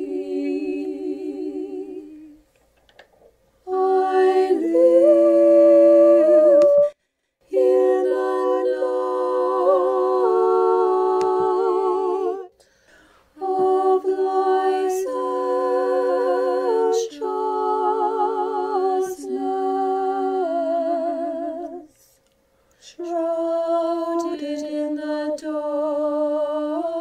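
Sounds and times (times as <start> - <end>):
choir singing chant: 0.0 - 2.5, 3.6 - 12.5, 13.4 - 21.9, 23.0 - 27.0.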